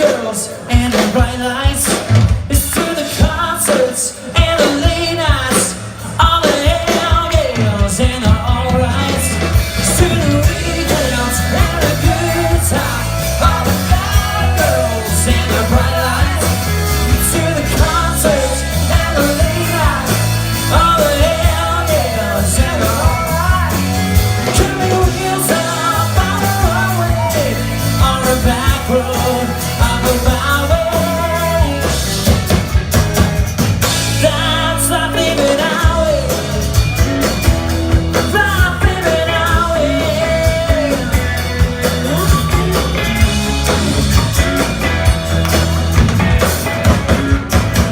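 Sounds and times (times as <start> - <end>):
person singing: 0.0 - 32.1, 34.0 - 36.6, 38.2 - 44.6
live rock band playing: 0.0 - 47.9.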